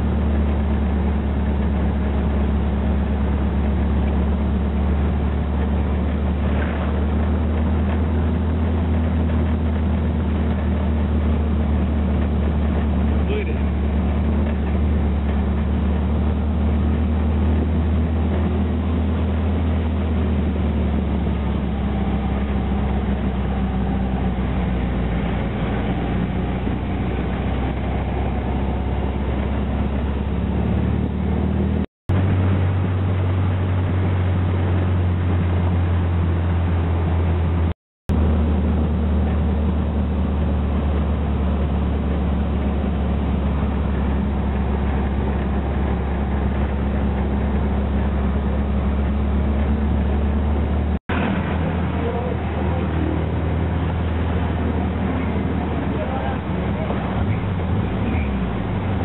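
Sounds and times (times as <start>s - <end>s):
buggy engine droning: 0.0s - 59.0s
wind and road noise: 0.0s - 59.0s.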